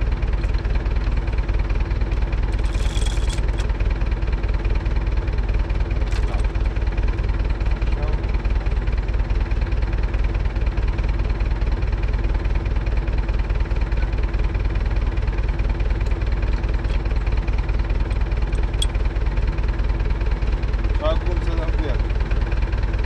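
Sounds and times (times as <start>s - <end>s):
diesel tractor engine idling: 0.0s - 23.0s.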